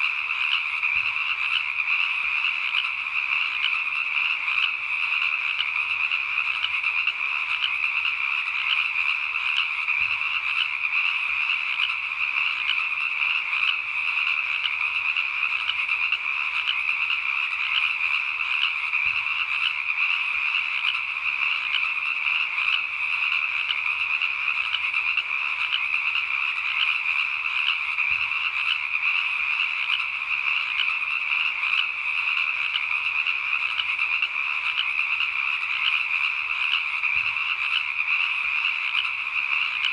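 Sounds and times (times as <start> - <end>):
chorus of calling animals: 0.0 - 39.9.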